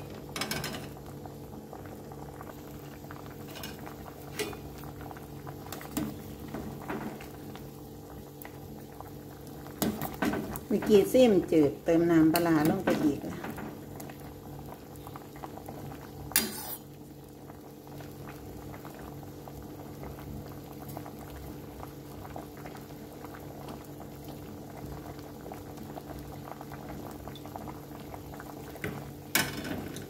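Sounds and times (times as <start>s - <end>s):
soup bubbling and popping: 0.0s - 30.0s.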